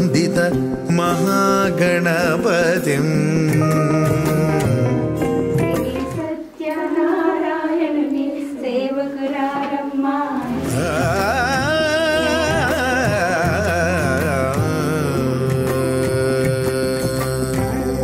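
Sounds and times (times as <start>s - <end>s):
low musical accompaniment: 0.0s - 7.8s, 10.5s - 18.0s
person singing with vibrato: 0.0s - 18.0s.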